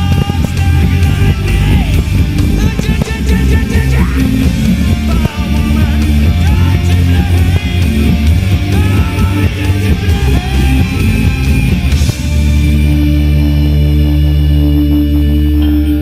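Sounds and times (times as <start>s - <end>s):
electric guitar: 0.0s - 16.0s
heavy steady bass: 0.0s - 16.0s
loud rock music: 0.0s - 16.0s.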